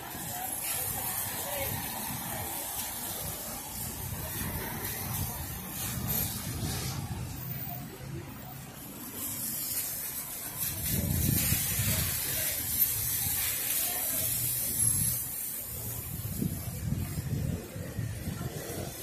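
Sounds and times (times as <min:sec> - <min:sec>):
low traffic rumble: 0:00.0 - 0:19.0
tyres hissing on wet road: 0:00.0 - 0:19.0.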